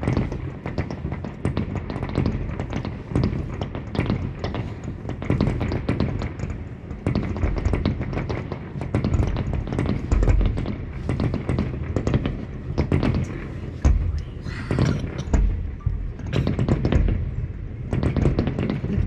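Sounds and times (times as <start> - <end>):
fireworks booms: 0.0 - 19.0
fireworks crackling pops: 0.0 - 19.0.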